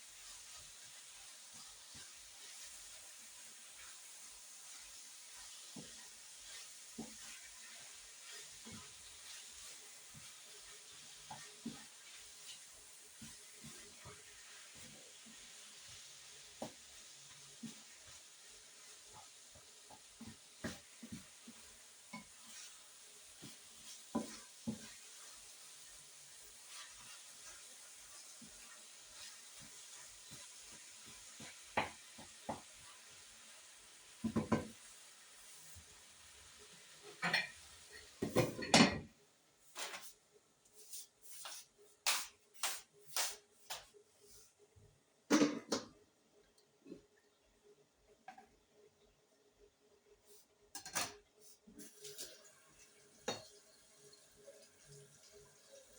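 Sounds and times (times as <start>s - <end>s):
food sizzling in a frying pan: 0.0s - 44.4s, 50.2s - 55.9s.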